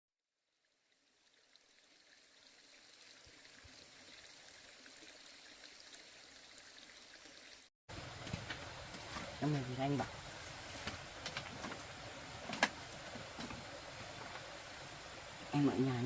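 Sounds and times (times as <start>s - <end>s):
running water: 0.5s - 16.0s.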